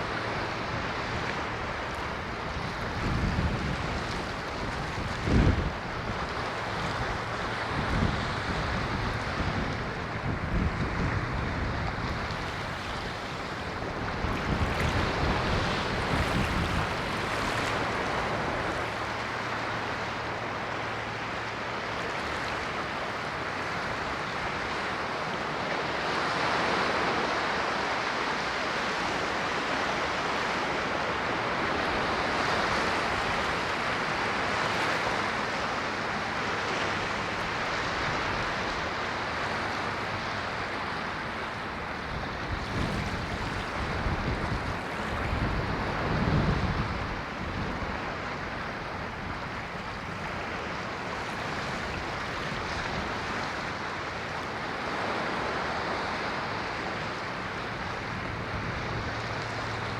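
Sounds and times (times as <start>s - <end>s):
ocean waves on shore: 0.0s - 59.9s.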